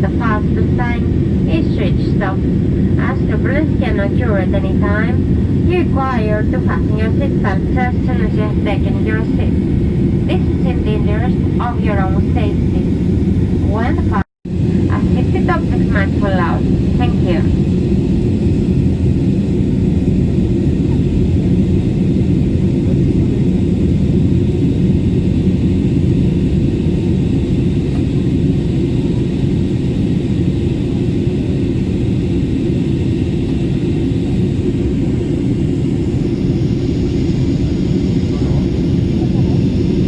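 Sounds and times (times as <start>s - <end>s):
jet engines rumbling: 0.0s - 40.0s.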